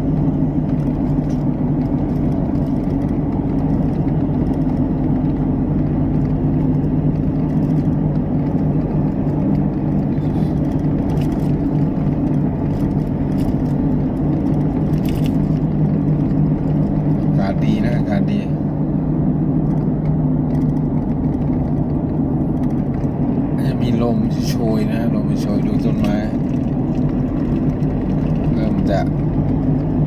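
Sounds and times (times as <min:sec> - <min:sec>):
low rumble: 0:00.0 - 0:30.0
vehicle engine hum: 0:00.0 - 0:30.0.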